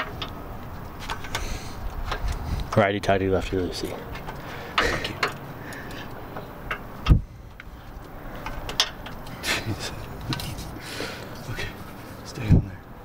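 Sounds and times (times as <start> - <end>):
hand tools clicking and knocking: 0.0 - 2.8, 3.6 - 11.4.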